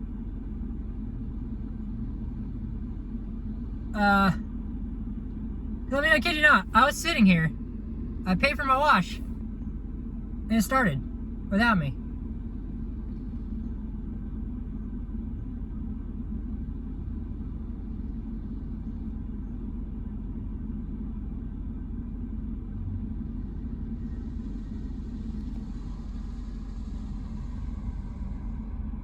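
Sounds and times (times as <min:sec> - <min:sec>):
low rumble inside a car: 0:00.0 - 0:29.0.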